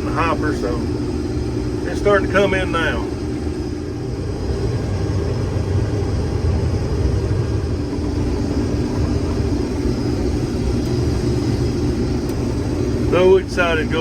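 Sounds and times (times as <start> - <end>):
combine harvester engine drone: 0.0 - 14.0
threshing machinery hum: 0.0 - 14.0.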